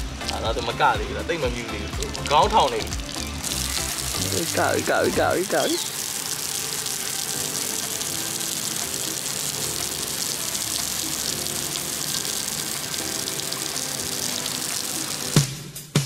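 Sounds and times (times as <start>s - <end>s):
water spray hissing on shell: 0.0s - 15.6s.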